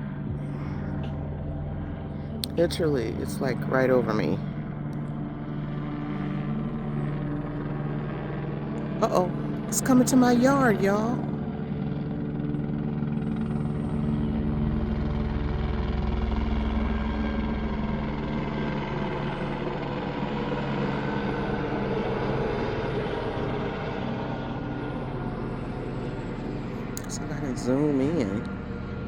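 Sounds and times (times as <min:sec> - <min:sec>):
helicopter engine drone: 0:00.0 - 0:29.0
helicopter rotor chop: 0:00.0 - 0:29.0.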